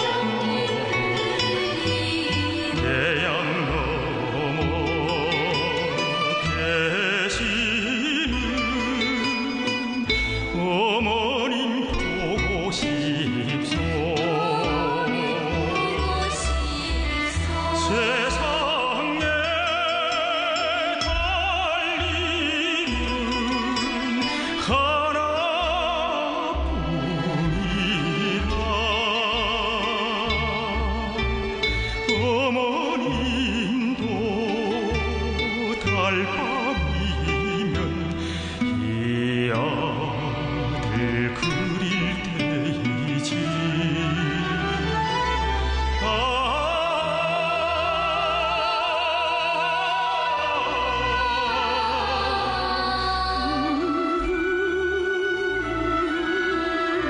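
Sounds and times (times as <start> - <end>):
person singing with vibrato: 0.0 - 57.0.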